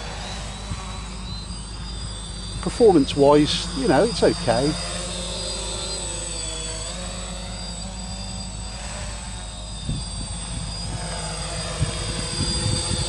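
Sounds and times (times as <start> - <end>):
drone propellers droning: 0.0 - 13.0.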